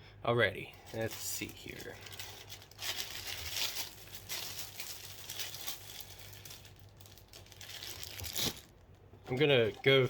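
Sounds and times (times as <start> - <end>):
packaging and paper rustling: 0.7 - 10.0.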